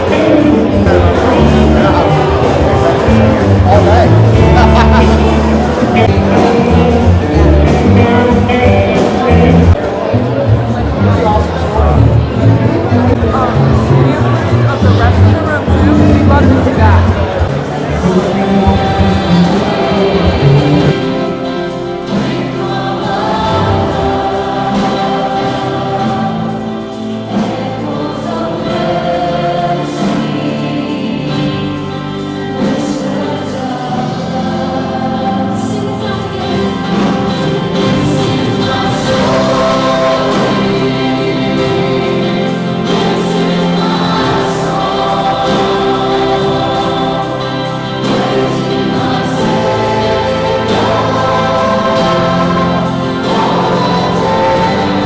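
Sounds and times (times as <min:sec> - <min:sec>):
group singing worship song: 0:00.0 - 0:09.8, 0:15.8 - 0:55.0
musical accompaniment: 0:00.0 - 0:55.0.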